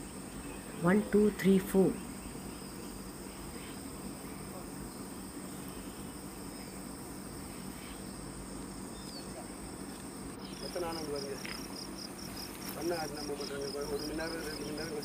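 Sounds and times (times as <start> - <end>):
insect pulsing chirp: 0.0 - 15.0
insects shrilling: 0.0 - 15.0.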